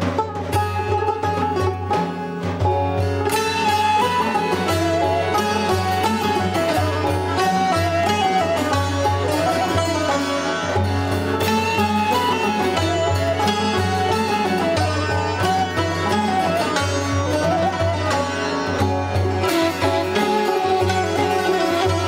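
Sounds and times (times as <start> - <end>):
plucked string instrument melody: 0.0 - 22.0.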